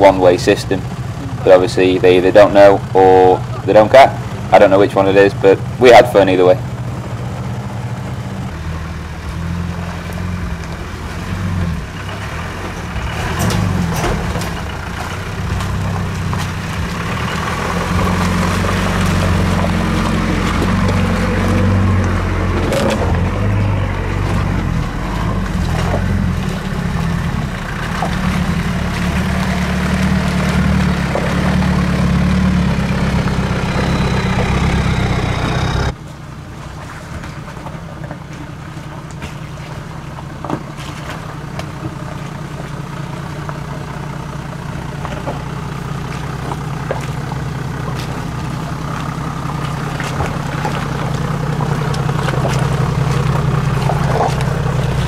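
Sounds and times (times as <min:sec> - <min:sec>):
off-road engines at low revs: 0:00.0 - 0:55.0.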